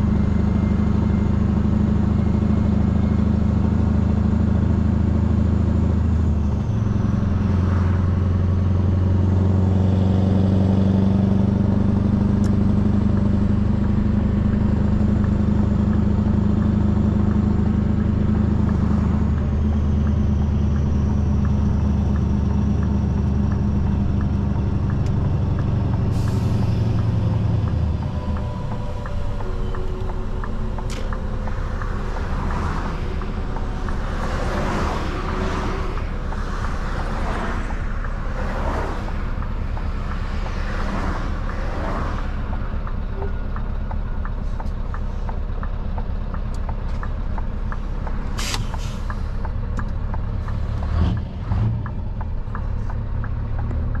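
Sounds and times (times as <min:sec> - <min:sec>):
truck engine with open exhaust: 0:00.0 - 0:54.0.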